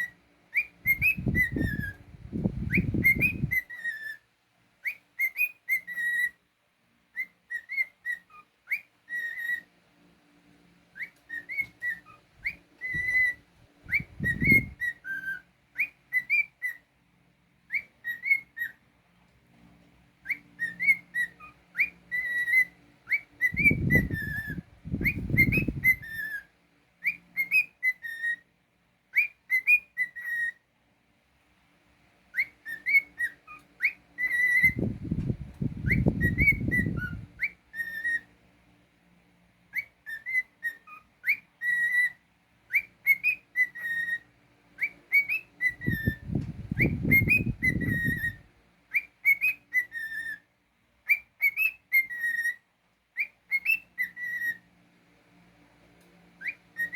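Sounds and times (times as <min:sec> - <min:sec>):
cockatiel whistling: 0:00.0 - 0:04.2, 0:04.8 - 0:06.4, 0:07.1 - 0:09.7, 0:10.9 - 0:16.9, 0:17.7 - 0:18.8, 0:20.2 - 0:28.5, 0:29.1 - 0:30.6, 0:32.3 - 0:38.4, 0:39.7 - 0:54.7, 0:56.4 - 0:56.9.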